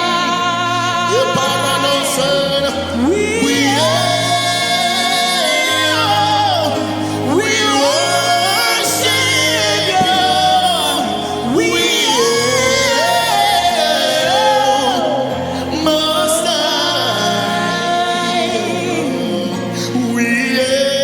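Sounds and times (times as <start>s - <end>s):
person singing gliding lines: 0.0s - 21.0s.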